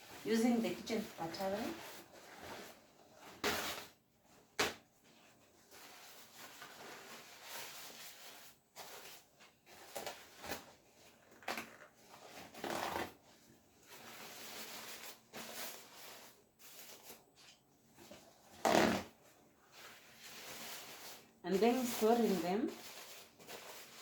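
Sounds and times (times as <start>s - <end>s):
paper towel rustling and crinkling: 0.0s - 24.0s.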